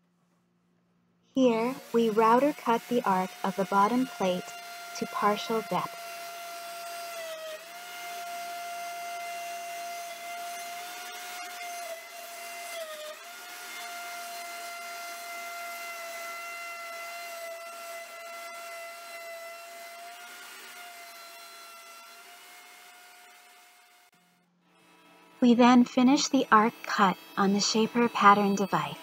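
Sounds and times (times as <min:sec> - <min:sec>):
router whining cutting wood: 0:01.4 - 0:29.0.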